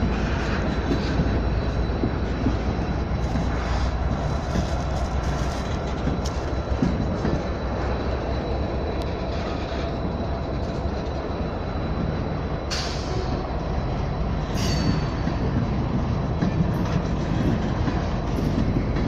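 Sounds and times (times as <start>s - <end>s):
steel wheels rumbling on rail: 0.0s - 19.0s.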